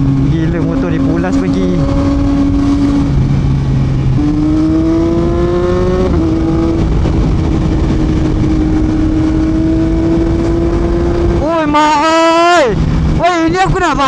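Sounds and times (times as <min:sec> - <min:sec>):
motorcycle engine under throttle: 0:00.0 - 0:11.6
road noise: 0:00.0 - 0:14.0
wind noise: 0:00.0 - 0:14.0.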